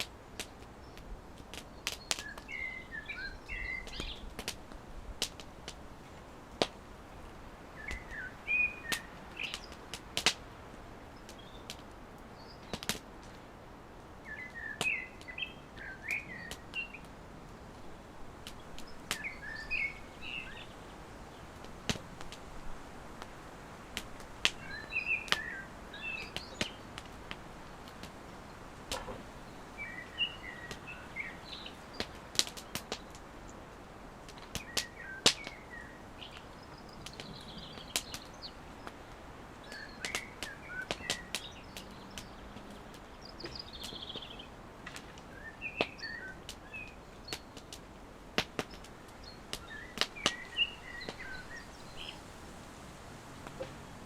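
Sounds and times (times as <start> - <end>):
small birds chirping: 0.0 - 4.7, 5.3 - 13.3, 14.2 - 22.5, 23.2 - 54.0
campfire crackling: 0.0 - 54.0.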